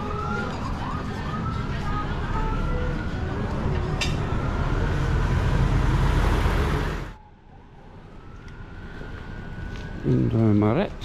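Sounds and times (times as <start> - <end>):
loud road traffic: 0.0 - 11.0.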